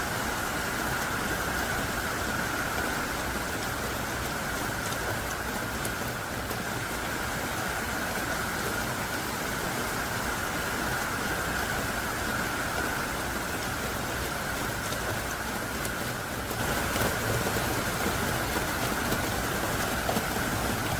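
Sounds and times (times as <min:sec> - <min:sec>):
heavy rain falling: 0:00.0 - 0:20.9
faint raindrop clicks: 0:00.9 - 0:08.8, 0:11.0 - 0:20.9.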